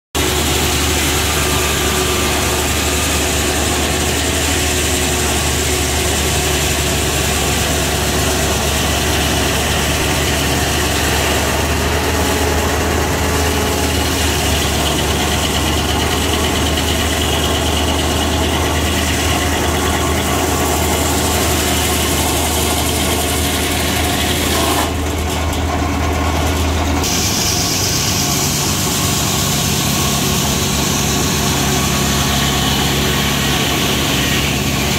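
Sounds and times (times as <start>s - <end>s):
circular saw blade sawing logs: 0.2s - 34.9s.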